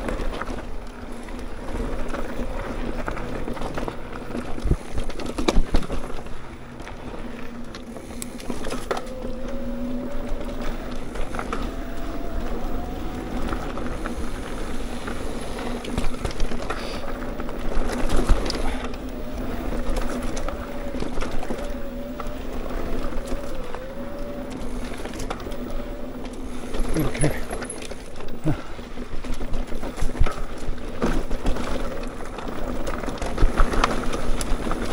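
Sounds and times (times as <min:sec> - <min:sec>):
bike rattling: 0:00.0 - 0:34.9
tyre and wind noise: 0:00.0 - 0:34.9.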